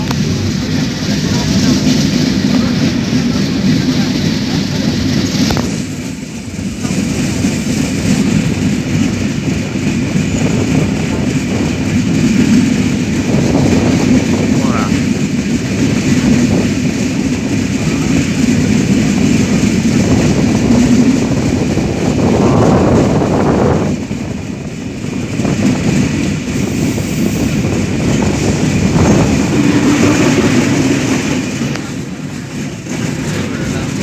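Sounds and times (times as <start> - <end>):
passenger train rumbling on track: 0.0 - 34.0.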